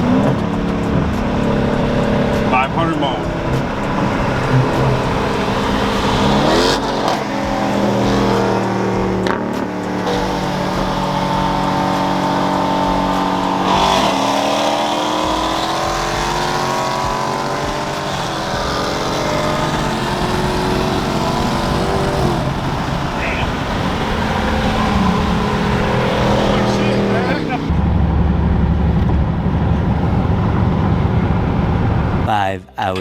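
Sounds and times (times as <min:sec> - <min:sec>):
car engine accelerating: 0:00.0 - 0:32.3.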